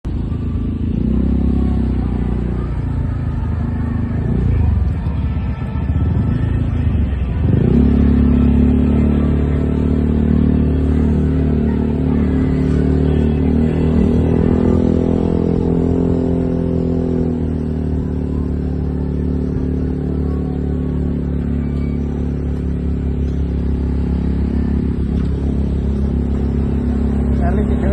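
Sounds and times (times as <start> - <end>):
engine droning: 0.0 - 27.9.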